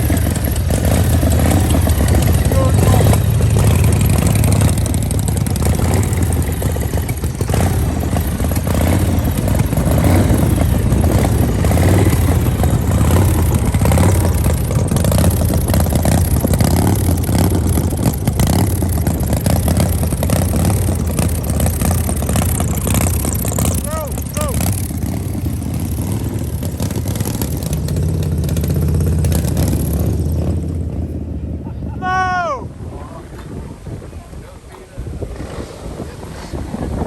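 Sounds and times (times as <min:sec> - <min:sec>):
engine running low rumble: 0:00.0 - 0:37.0.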